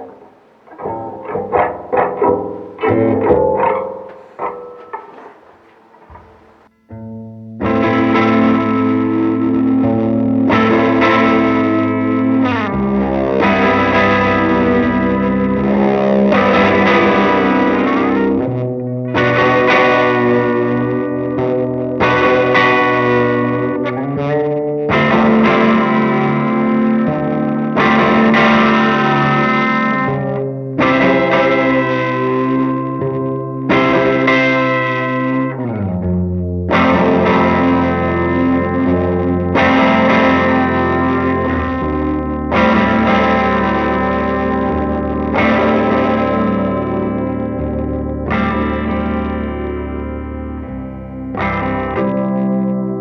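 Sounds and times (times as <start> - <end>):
distorted electric guitar chords: 0.0 - 53.0.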